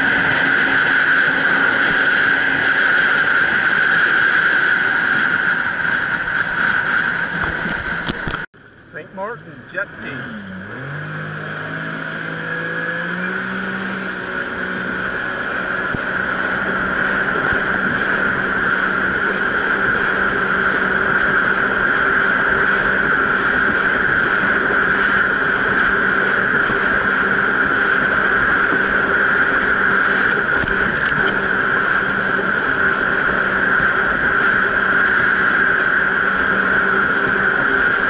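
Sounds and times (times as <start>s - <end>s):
jet ski engine: 0.0s - 38.0s
water rushing: 0.0s - 38.0s.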